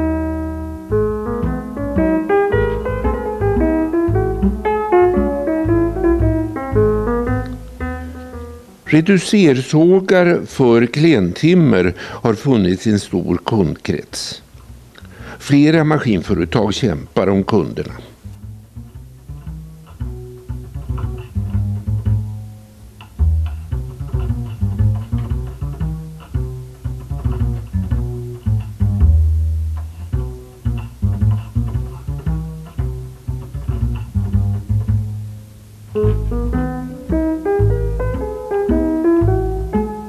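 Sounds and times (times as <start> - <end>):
bass line music: 0.0 - 11.6, 14.6 - 40.0.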